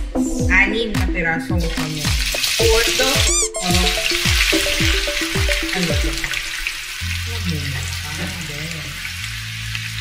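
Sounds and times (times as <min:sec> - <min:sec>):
background music: 0:00.0 - 0:10.0
onion sizzling in hot oil: 0:01.7 - 0:10.0.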